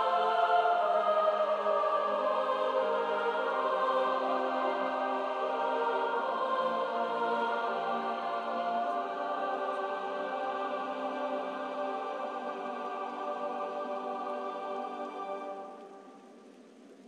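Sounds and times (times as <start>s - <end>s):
choir singing held notes: 0.0s - 16.4s.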